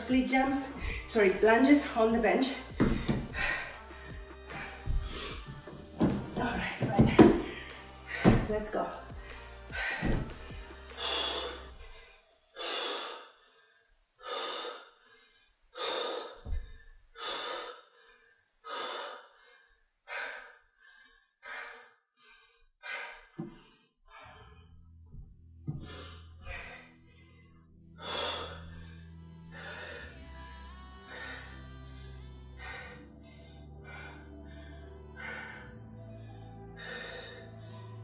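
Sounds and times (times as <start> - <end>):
woman panting: 0.1 - 27.3, 28.0 - 30.2, 31.1 - 31.6, 32.6 - 35.8.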